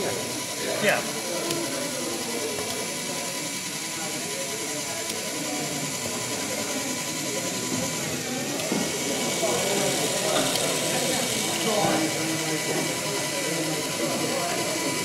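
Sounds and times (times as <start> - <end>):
background chatter: 0.0 - 15.0
toy tractor mechanical whir: 0.0 - 15.0.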